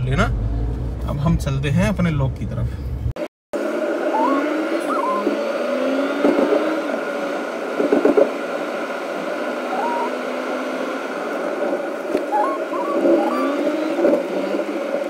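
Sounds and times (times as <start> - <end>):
engine and road noise hum: 0.0 - 15.0.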